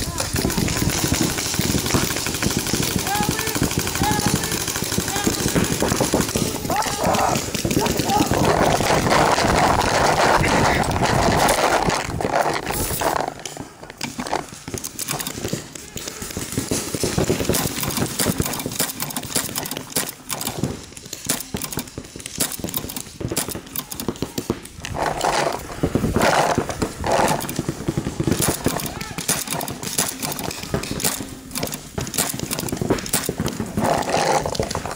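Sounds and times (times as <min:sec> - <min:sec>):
paintball markers firing: 0:00.0 - 0:34.9
paintballs striking inflatable bunkers: 0:00.0 - 0:34.9.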